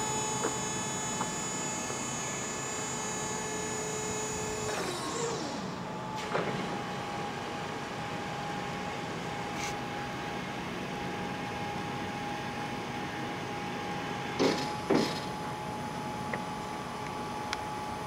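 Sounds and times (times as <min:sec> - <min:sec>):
electric truck mast whine: 0:00.0 - 0:18.0.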